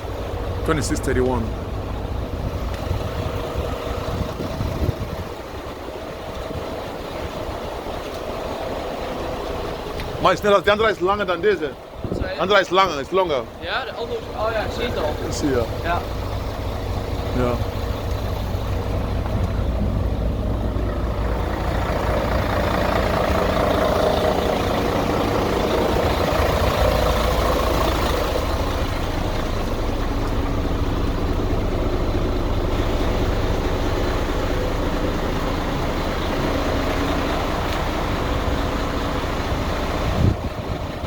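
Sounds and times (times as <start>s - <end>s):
truck diesel engine idling: 0.0s - 41.0s.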